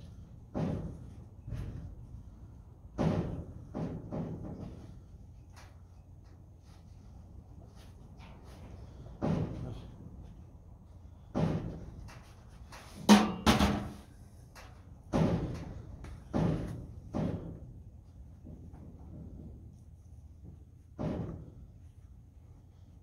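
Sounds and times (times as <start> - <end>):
barn structure clunking and banging: 0.0 - 23.0.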